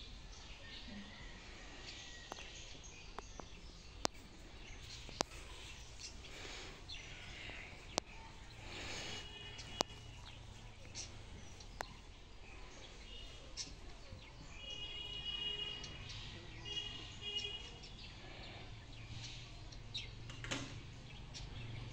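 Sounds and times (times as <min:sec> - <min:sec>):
birds chirping: 0:00.0 - 0:21.9
outdoor background noise: 0:00.0 - 0:21.9.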